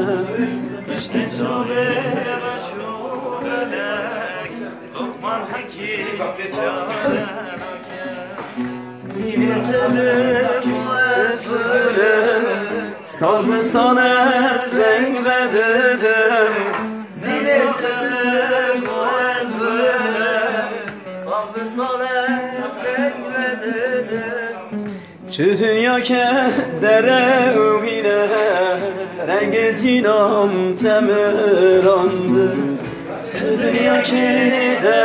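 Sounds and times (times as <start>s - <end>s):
long-necked lute: 0.0s - 35.0s
men singing folk song: 0.0s - 35.0s
nylon-string guitar: 0.0s - 35.0s.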